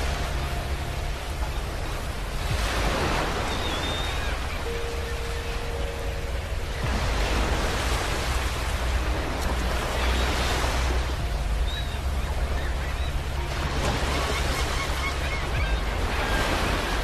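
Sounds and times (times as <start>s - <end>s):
sea waves washing on beach: 0.0s - 17.0s.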